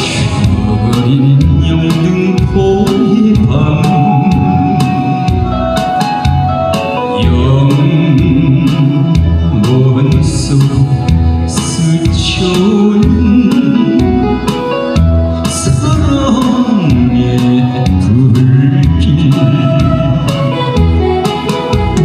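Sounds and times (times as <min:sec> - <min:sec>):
man singing into a microphone: 0:00.0 - 0:20.8
instrumental accompaniment with beat: 0:00.0 - 0:22.0.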